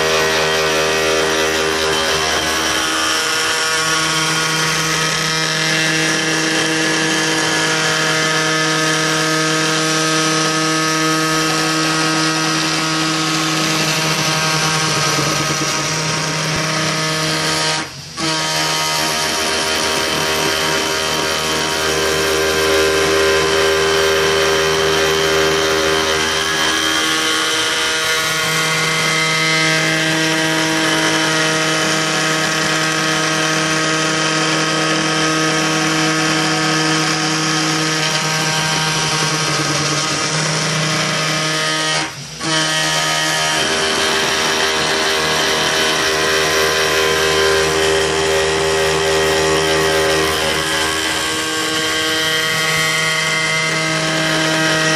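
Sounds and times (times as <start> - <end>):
cnc router spindle whine: 0.0 - 54.9.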